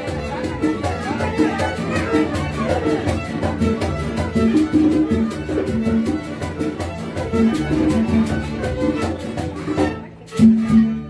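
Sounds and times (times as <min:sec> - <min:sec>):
latin dance band with guitar: 0:00.0 - 0:11.0.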